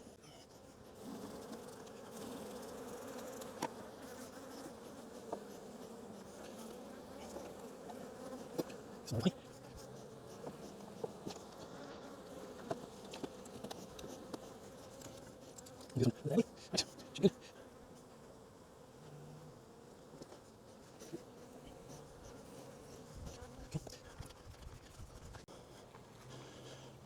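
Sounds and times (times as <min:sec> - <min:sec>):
bees buzzing: 0:00.1 - 0:24.1.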